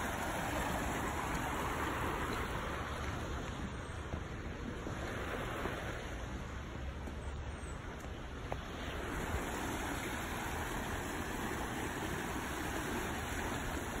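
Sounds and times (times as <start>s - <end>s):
brook rushing water: 0.0s - 14.0s.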